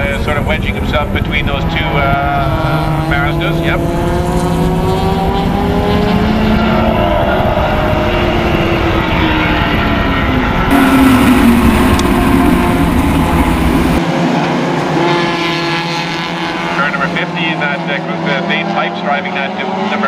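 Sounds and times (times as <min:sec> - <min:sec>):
race cars passing at high revs: 0:00.0 - 0:20.0.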